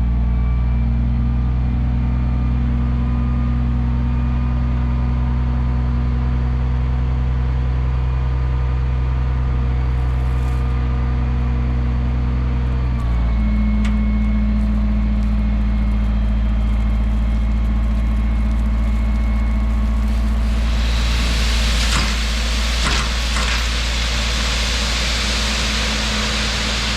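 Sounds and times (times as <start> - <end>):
engine running: 0.0 - 26.9.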